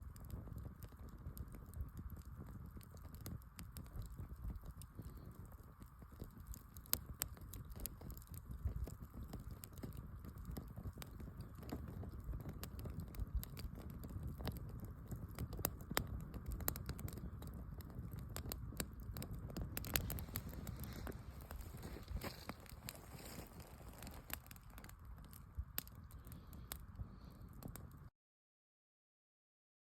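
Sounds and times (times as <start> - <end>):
campfire snaps and pops: 0.0 - 28.1
low fire rumble: 0.0 - 28.1.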